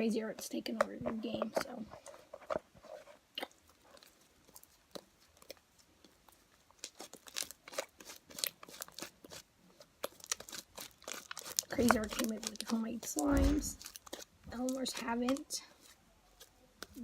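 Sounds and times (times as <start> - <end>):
slime squishing: 3.3 - 17.0.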